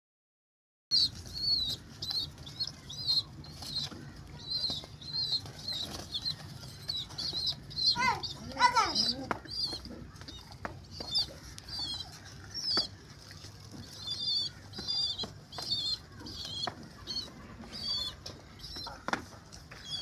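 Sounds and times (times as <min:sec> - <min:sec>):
squeaky chirps: 0:00.9 - 0:13.1, 0:13.8 - 0:19.1.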